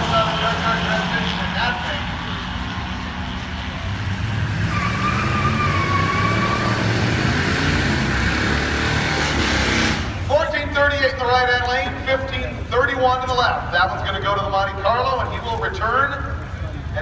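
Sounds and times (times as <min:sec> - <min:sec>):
drag race engines roaring: 0:00.0 - 0:17.0.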